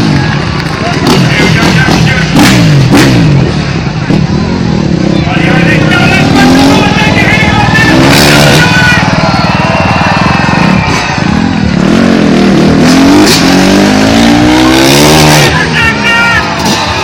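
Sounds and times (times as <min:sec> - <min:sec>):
motorcycle engine revving: 0:00.0 - 0:15.8.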